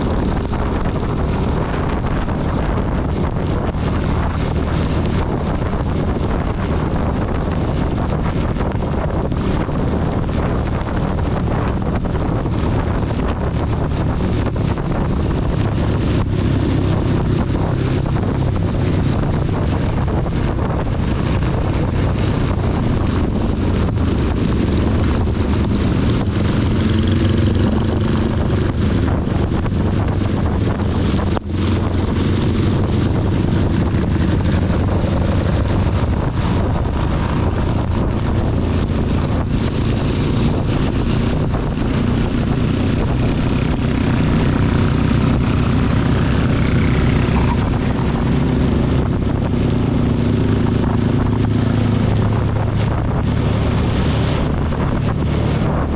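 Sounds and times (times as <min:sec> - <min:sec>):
motorcycle engine running: 0:00.0 - 0:55.9
wind on camera: 0:00.0 - 0:55.9.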